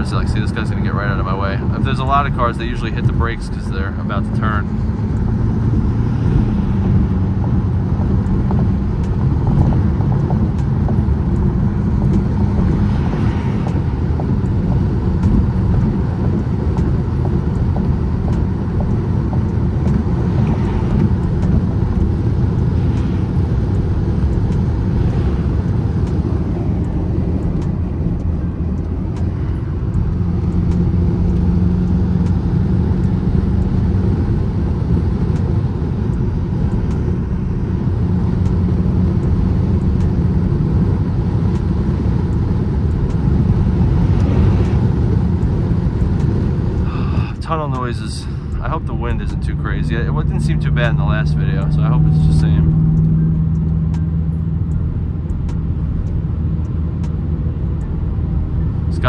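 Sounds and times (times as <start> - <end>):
engine and tyre drone in cabin: 0.0 - 59.0.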